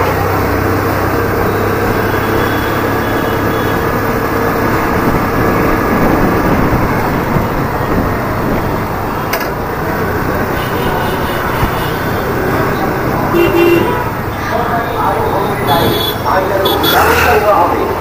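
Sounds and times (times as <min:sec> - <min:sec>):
road and traffic noise: 0:00.0 - 0:18.0
scooter engine running: 0:00.0 - 0:18.0.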